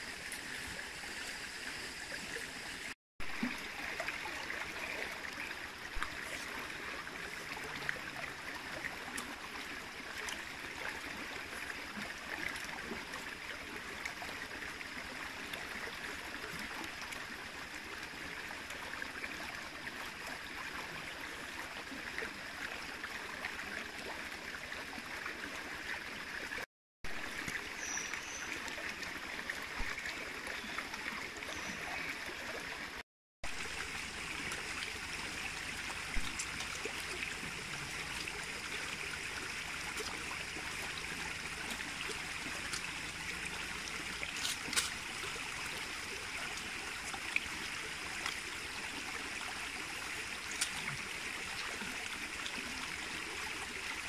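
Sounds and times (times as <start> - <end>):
stream rushing and gurgling: 0.0 - 54.0.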